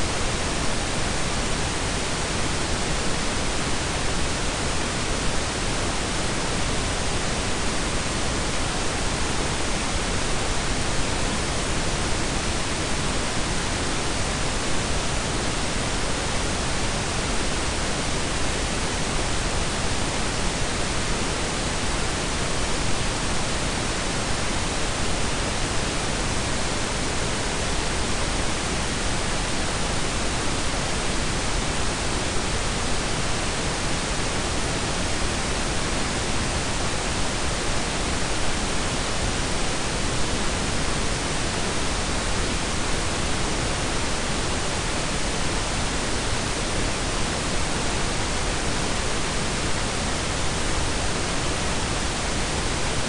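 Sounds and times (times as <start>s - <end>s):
steady noise hiss and rumble: 0.0s - 53.0s.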